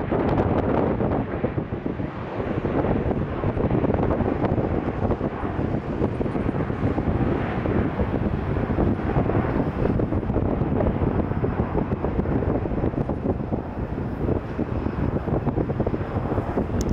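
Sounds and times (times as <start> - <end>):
jet airliner engine: 0.0 - 16.9
wind on microphone: 0.0 - 16.9.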